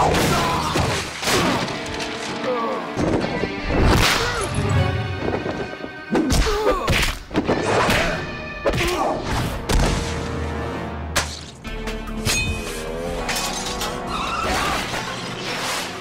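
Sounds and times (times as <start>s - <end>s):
action music score: 0.0s - 16.0s.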